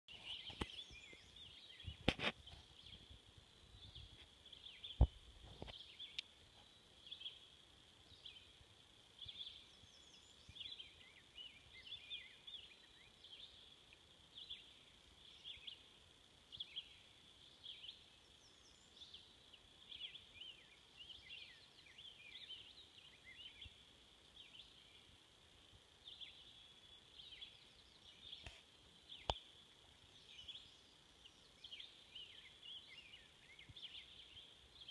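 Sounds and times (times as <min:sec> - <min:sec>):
faint bird chirps: 0:00.1 - 0:34.9.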